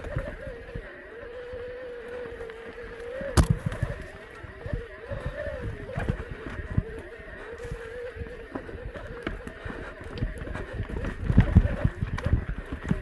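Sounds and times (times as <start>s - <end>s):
bike tyres rumbling on rocky trail: 0.0s - 13.0s
steady wavering whine: 0.0s - 13.0s
wheels knocking on roots and rocks: 0.0s - 13.0s.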